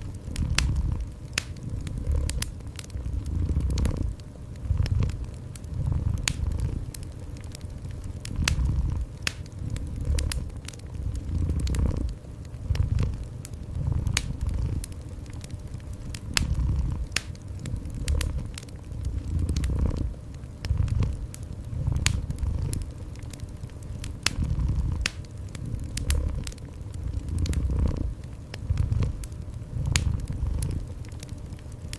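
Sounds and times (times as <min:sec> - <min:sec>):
cat purring: 0:00.0 - 0:31.2
wood fire crackling and popping: 0:00.0 - 0:31.9.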